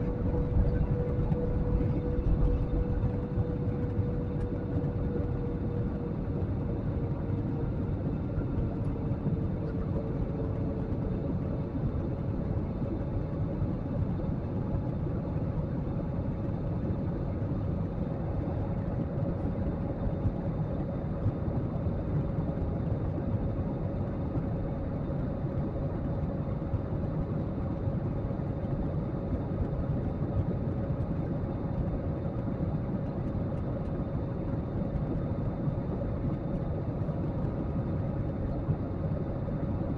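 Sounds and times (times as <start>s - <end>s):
airliner cabin engine noise: 0.0s - 39.9s
faint hum: 0.0s - 39.9s.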